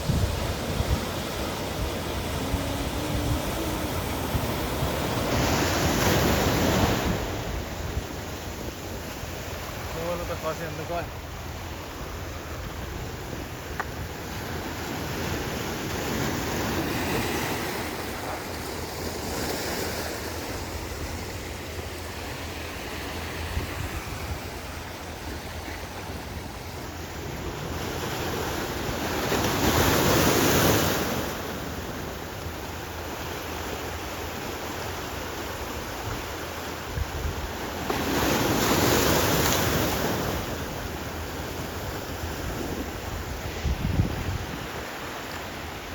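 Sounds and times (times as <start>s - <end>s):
big waves breaking loudly: 0.0s - 45.9s
waves rushing: 0.0s - 45.9s.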